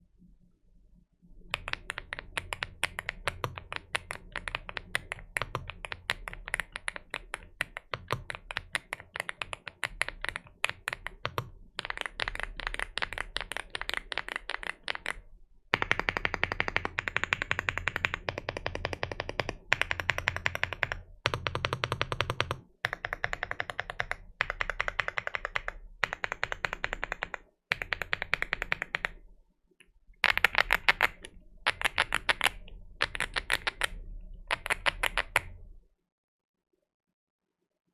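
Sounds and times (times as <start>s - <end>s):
fast typing on mechanical keyboard: 1.4s - 29.2s, 30.2s - 35.6s.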